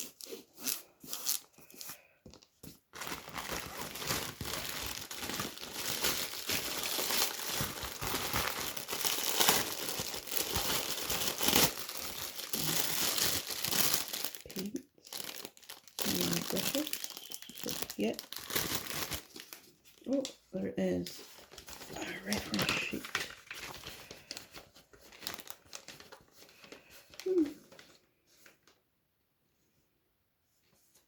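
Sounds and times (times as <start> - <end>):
packaging crinkling and rustling: 0.0 - 20.4, 21.0 - 28.8.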